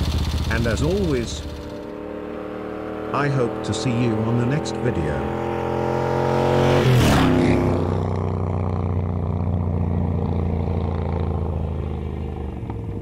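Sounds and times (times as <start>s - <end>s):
motorcycle passing by: 0.0s - 13.0s.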